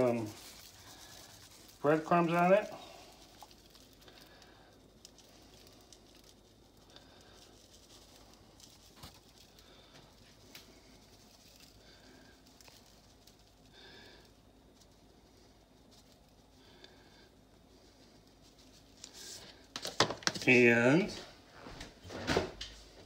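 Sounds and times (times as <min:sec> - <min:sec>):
breadcrumbs pattering onto vegetables: 0:00.0 - 0:23.0.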